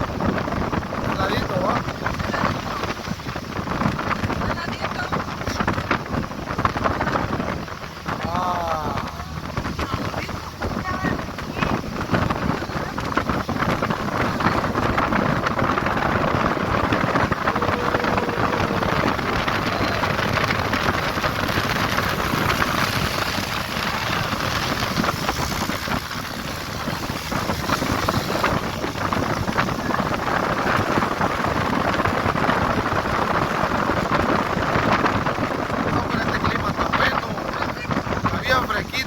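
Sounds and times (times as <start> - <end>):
vehicle road noise: 0.0 - 39.0
wind over microphone: 0.0 - 39.0.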